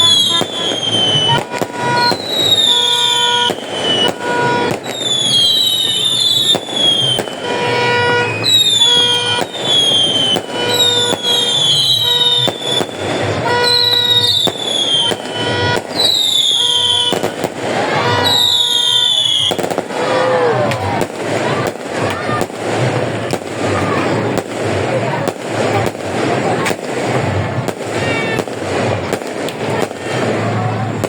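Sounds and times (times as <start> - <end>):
fireworks bangs: 0.0 - 31.0
fireworks crackle: 0.0 - 31.0
fireworks whistling: 0.0 - 31.0.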